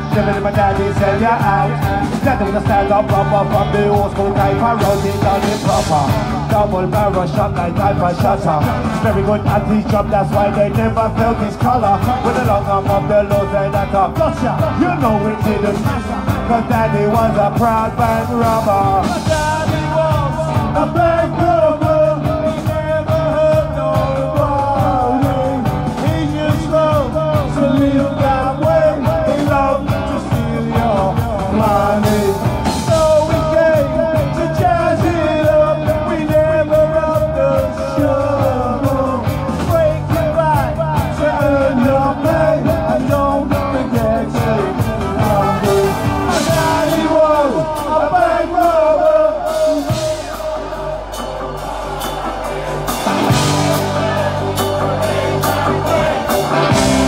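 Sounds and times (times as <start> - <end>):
drum beat: 0.0 - 57.0
live rock band: 0.0 - 57.0
wavering melodic lead line: 0.0 - 57.0.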